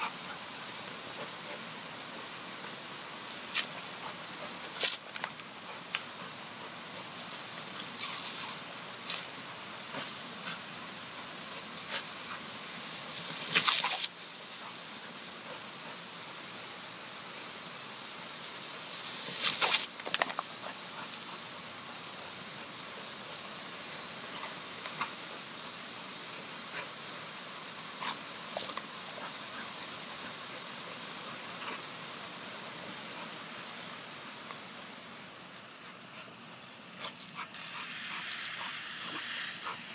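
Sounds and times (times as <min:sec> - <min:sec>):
garden hose spray hissing: 0:00.0 - 0:39.9.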